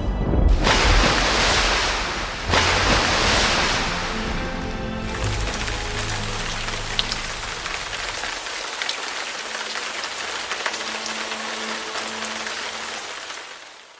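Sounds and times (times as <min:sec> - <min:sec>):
steady rain falling: 0:00.5 - 0:13.9.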